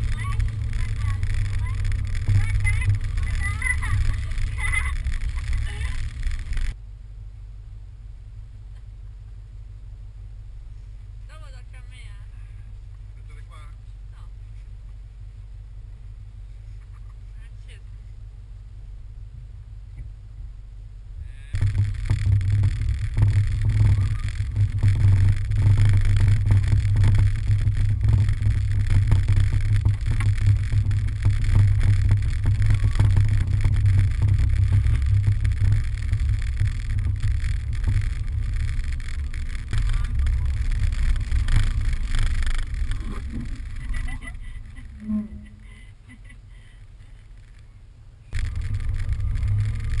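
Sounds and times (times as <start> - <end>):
vehicle low rumble: 0.0 - 50.0.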